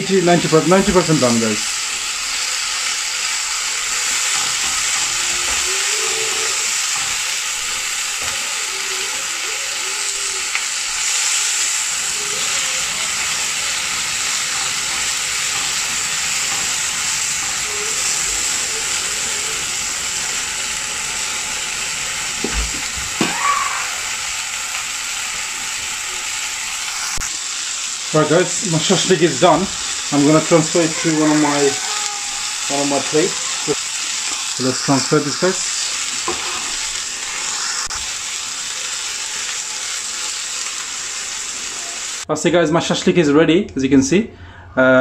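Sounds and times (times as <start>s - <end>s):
skewers sizzling in a grill pan: 0.0s - 42.3s.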